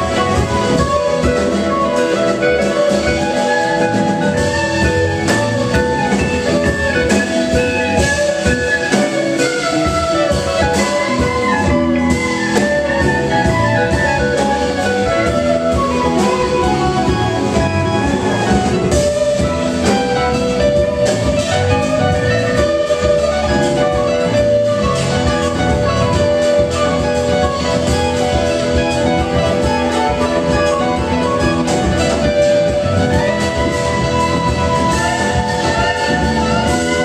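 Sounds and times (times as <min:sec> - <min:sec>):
bass guitar: 0:00.0 - 0:37.0
drum kit: 0:00.0 - 0:37.0
electric guitars: 0:00.0 - 0:37.0
keyboards: 0:00.0 - 0:37.0.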